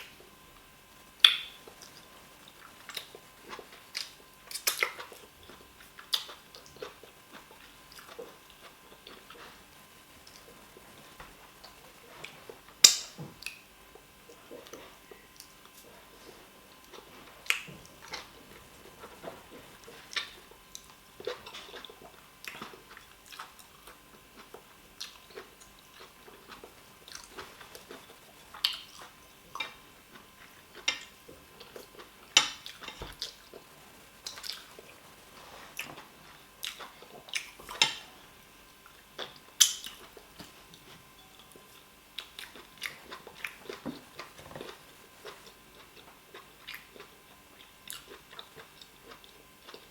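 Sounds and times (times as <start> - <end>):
person eating close-miked: 1.2 - 49.9.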